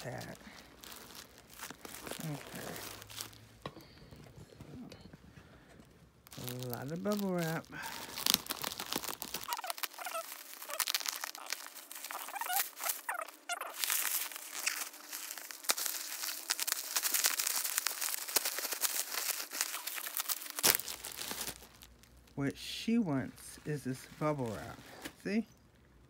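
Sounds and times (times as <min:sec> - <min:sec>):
bubble wrap crackling: 0:00.0 - 0:25.7.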